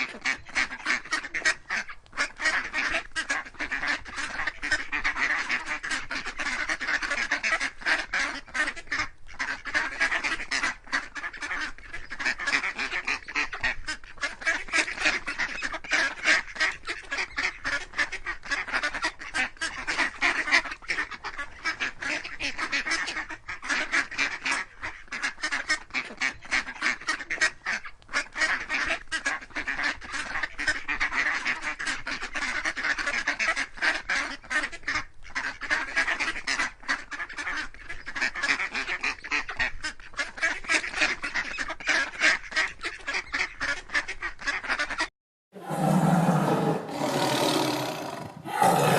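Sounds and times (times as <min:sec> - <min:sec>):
flock of ducks calling: 0:00.0 - 0:48.9.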